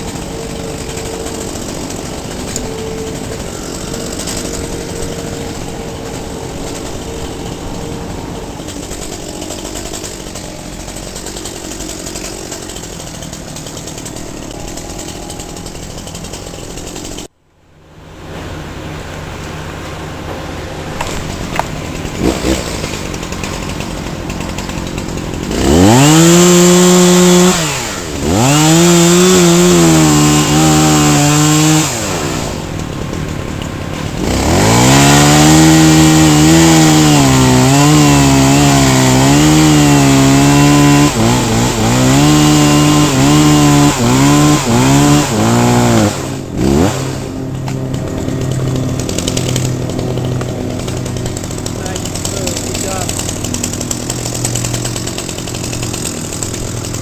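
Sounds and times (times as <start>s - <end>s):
chainsaw cutting wood: 0.0s - 17.3s, 20.9s - 57.0s
chainsaw throttle blips: 0.0s - 17.3s, 21.0s - 57.0s.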